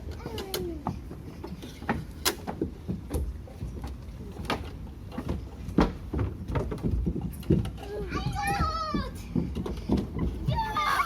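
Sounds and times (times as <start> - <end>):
knocks and thumps: 0.8 - 10.9.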